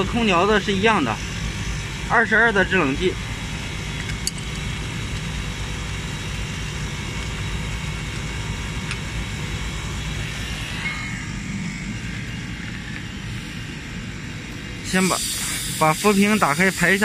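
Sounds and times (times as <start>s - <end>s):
compressor mechanical drone: 0.0s - 17.0s.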